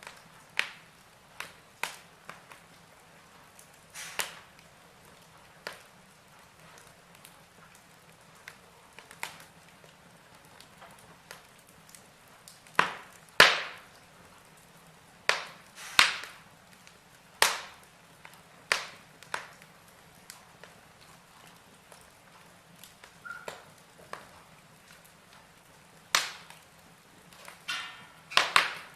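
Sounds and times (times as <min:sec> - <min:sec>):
fire crackling and popping: 0:00.0 - 0:28.9
low fire hiss: 0:00.0 - 0:28.9.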